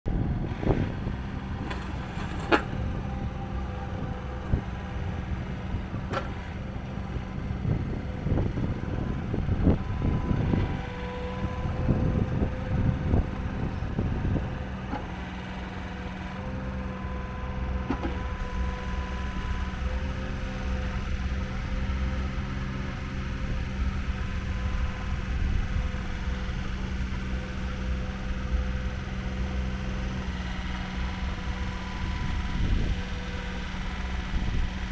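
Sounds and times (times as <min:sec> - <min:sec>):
hydraulic whine: 0:00.1 - 0:34.9
mini excavator diesel engine: 0:00.1 - 0:34.9.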